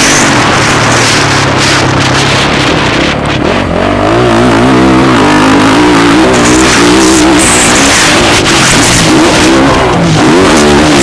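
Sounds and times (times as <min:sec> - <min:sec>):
motorbike engines revving: 0:00.0 - 0:11.0.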